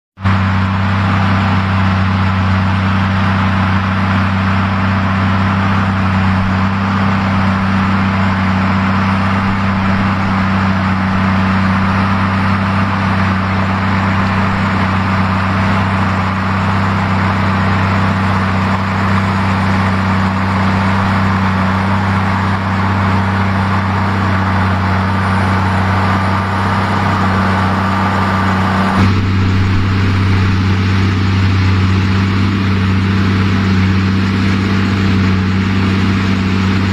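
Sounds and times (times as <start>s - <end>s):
tractor diesel engine humming: 0.2s - 36.9s.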